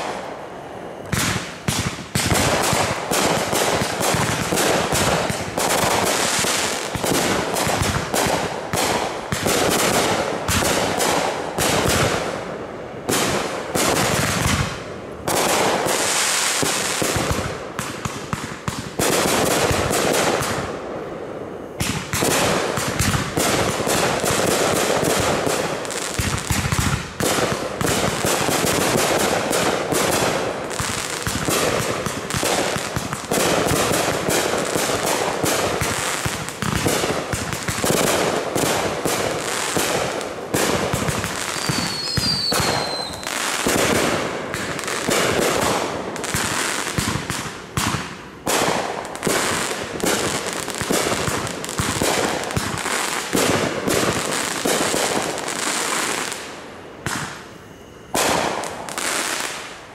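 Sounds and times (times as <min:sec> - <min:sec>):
fireworks bangs and pops: 0:00.0 - 0:00.4, 0:01.0 - 0:57.5, 0:58.1 - 0:59.8.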